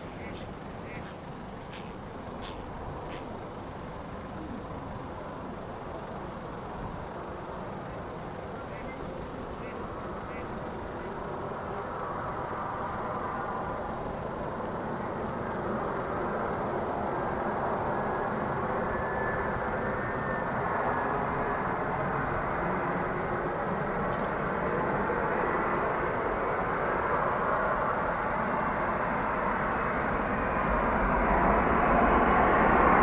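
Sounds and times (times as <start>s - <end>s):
faint high whine: 0.0s - 33.0s
jet engines rumbling: 0.0s - 33.0s.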